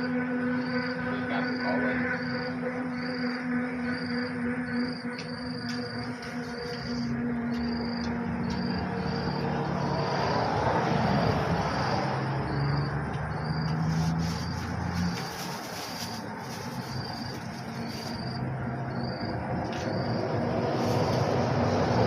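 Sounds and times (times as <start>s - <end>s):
insect chirping in pulses: 0.0s - 22.0s
vehicle passing on road: 0.0s - 22.0s.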